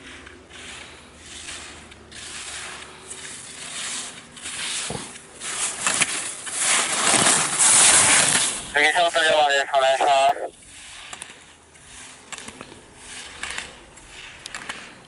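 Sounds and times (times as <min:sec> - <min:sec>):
skis scraping on snow: 0:00.0 - 0:15.0.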